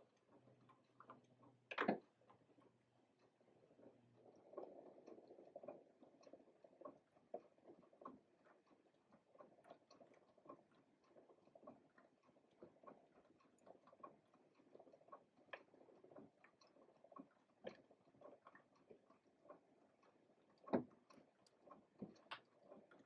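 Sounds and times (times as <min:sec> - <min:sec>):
small mechanical clicks and ticks: 0:00.0 - 0:23.0.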